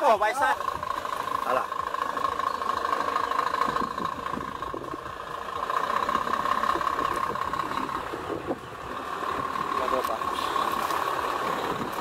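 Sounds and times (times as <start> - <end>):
truck crossing wooden plank bridge: 0.0 - 12.0
truck diesel engine running: 0.0 - 12.0.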